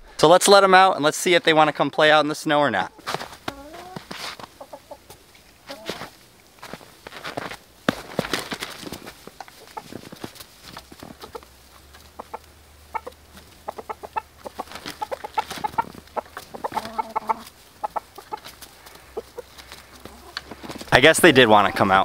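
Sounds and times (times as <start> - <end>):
chickens clucking: 2.0 - 22.0.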